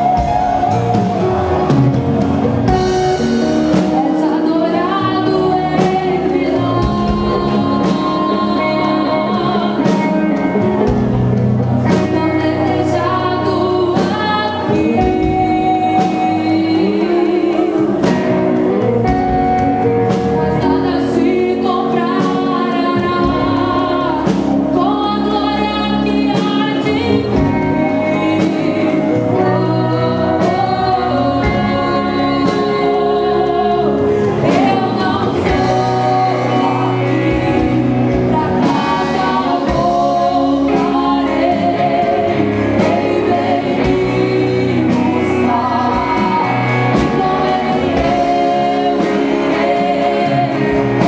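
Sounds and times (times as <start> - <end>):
band with bass and drums: 0.0 - 51.0
gospel singing: 0.0 - 51.0.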